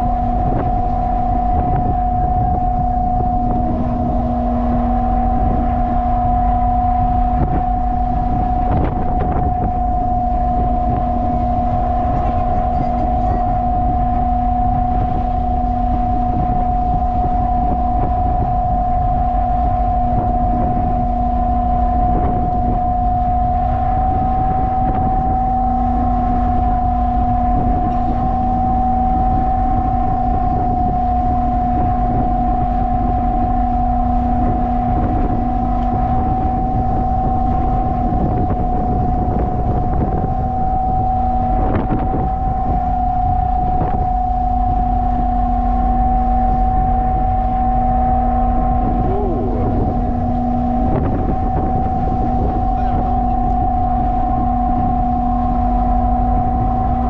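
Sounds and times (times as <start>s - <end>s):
ship engines droning: 0.0s - 57.0s
steady machine whine: 0.0s - 57.0s
wind buffeting microphone: 0.0s - 57.0s.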